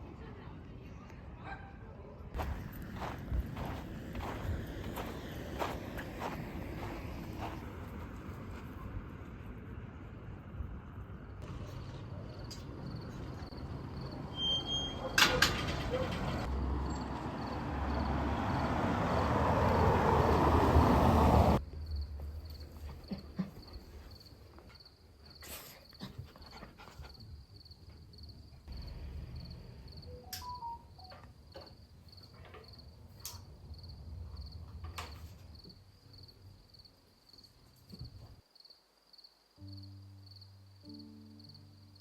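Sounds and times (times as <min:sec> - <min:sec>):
crickets chirping: 0:02.4 - 0:08.0, 0:12.2 - 0:15.2, 0:16.5 - 0:42.0.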